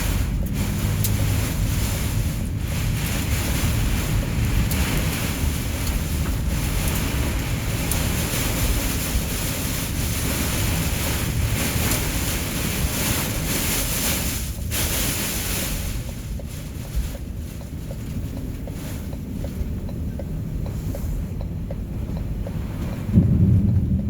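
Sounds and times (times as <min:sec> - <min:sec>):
strong wind: 0:00.0 - 0:17.4, 0:18.8 - 0:24.0
heavy rain and hail on a car: 0:00.0 - 0:24.0.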